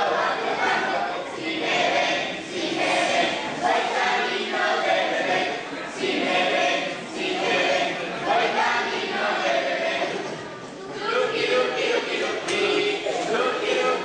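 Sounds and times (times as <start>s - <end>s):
children singing in unison: 0.0s - 14.0s.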